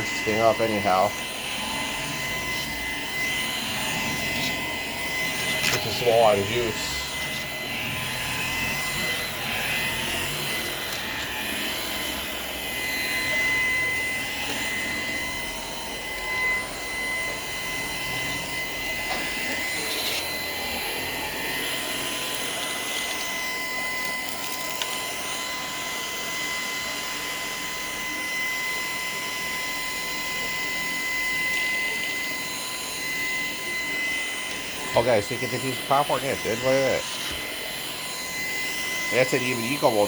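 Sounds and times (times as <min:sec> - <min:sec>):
vacuum cleaner motor whine: 0:00.0 - 0:40.0.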